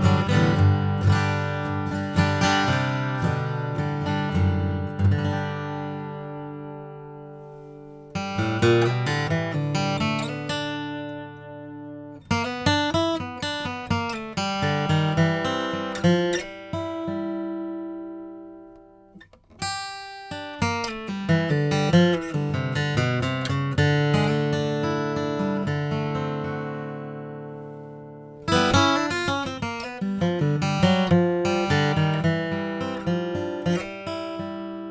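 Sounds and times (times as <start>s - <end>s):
flatpicked acoustic guitar notes: 0.0s - 34.9s.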